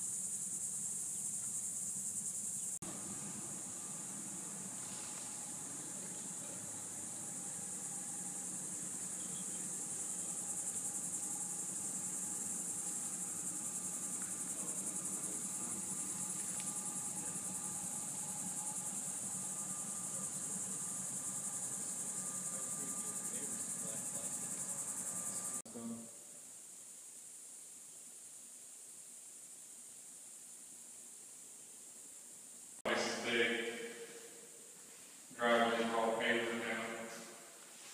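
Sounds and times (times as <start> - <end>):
insects trilling: 0.0 - 34.7
faint hiss: 0.0 - 37.9.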